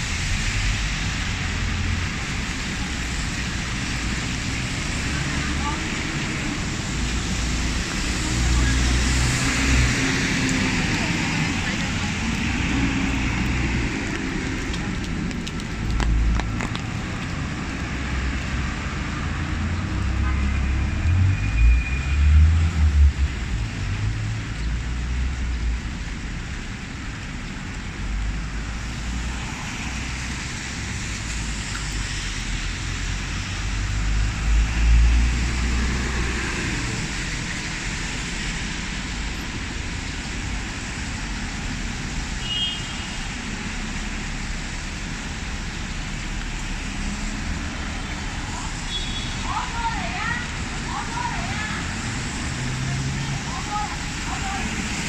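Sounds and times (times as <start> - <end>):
rain hissing: 0.0 - 55.0
road traffic passing: 0.0 - 55.0.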